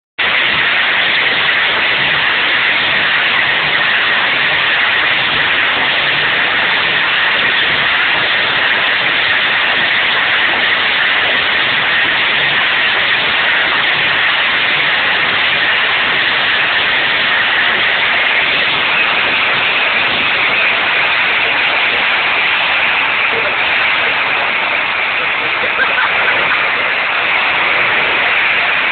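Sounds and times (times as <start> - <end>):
tractor engine at full load: 0.2 - 28.9.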